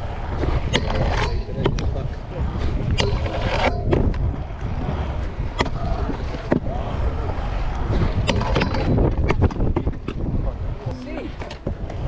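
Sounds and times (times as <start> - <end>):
scooter wheels rumbling on concrete: 0.0 - 12.0.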